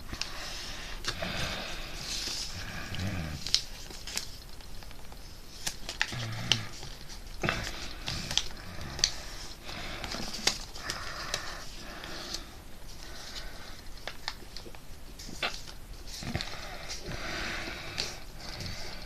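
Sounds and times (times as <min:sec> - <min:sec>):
paper rustling and crinkling: 0:00.1 - 0:17.2.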